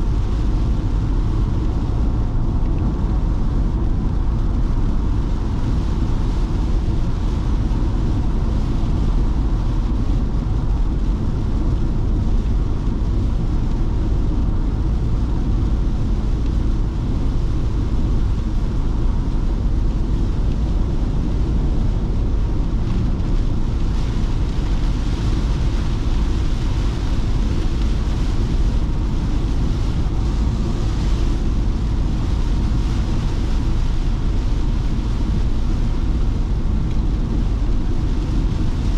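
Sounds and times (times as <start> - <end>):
heavy rain hiss on wet road: 0.0 - 38.9
van engine and road rumble: 0.0 - 38.9.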